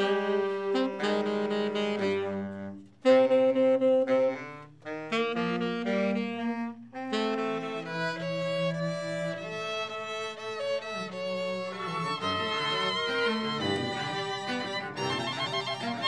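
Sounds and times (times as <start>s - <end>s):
saxophone ensemble playing chords: 0.0s - 16.0s.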